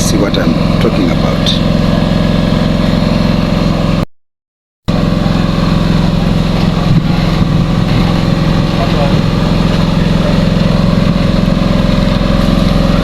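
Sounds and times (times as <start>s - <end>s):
engine idling: 0.0s - 4.0s, 4.9s - 13.0s.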